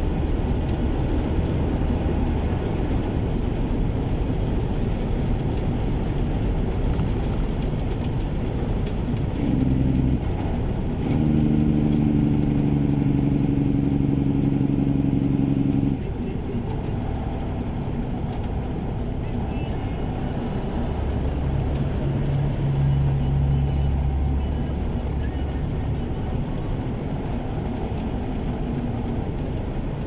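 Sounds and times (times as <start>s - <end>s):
truck diesel engine rumble: 0.0s - 30.0s.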